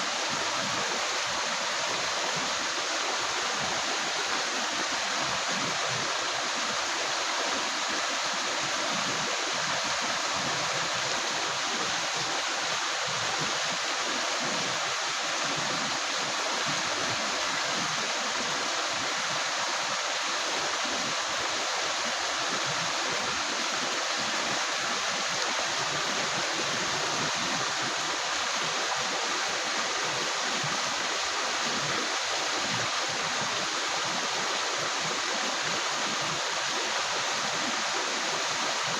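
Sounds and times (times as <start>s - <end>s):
river water gurgling over rocks: 0.0s - 38.9s.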